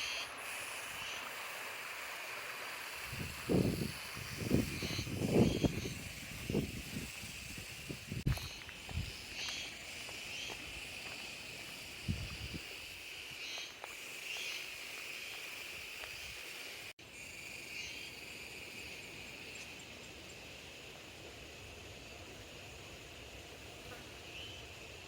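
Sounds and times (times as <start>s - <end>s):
insect chirps: 0.0s - 25.0s
insects buzzing: 0.0s - 25.0s.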